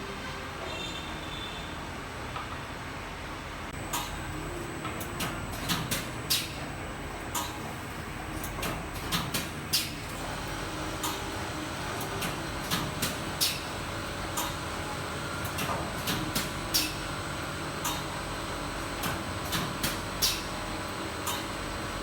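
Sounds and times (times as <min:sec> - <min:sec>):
machine hum: 0:01.7 - 0:22.0.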